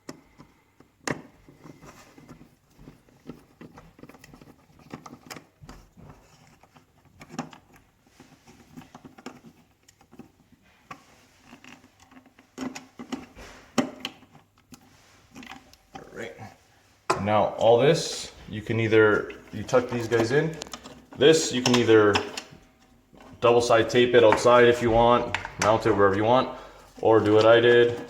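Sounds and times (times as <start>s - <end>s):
thin wires being handled: 1.4s - 28.0s.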